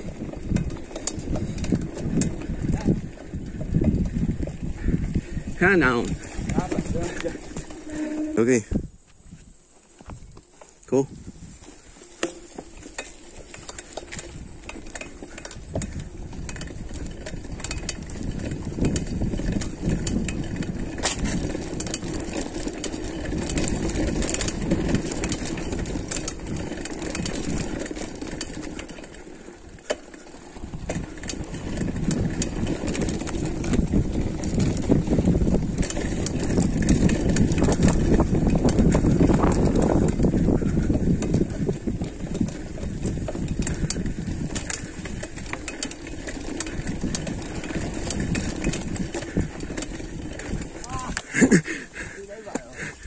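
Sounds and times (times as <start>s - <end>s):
bike clicks and rattles: 0.0s - 53.0s
bike rumbling over dirt trail: 0.0s - 53.0s.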